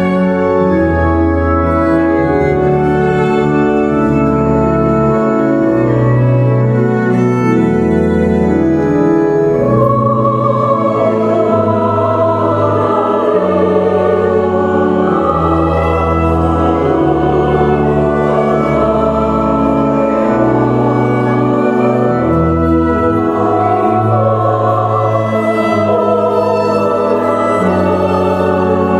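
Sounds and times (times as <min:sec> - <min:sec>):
choir singing a hymn: 0:00.0 - 0:28.9
pipe organ chords: 0:00.0 - 0:28.9.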